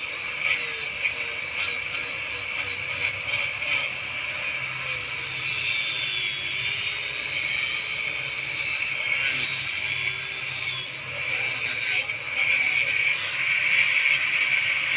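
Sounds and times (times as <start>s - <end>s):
electric tile cutter grinding: 0.0s - 14.9s.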